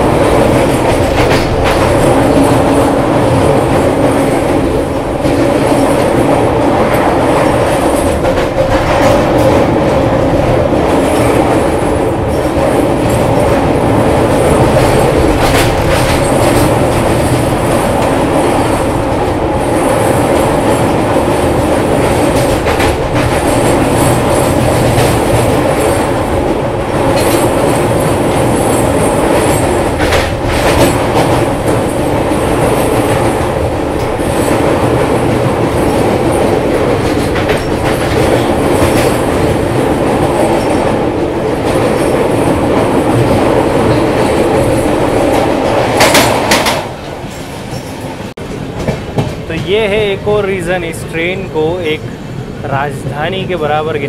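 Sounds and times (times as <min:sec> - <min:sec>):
rail clicks: 0:00.0 - 0:54.0
train rumbling and rattling: 0:00.0 - 0:54.0.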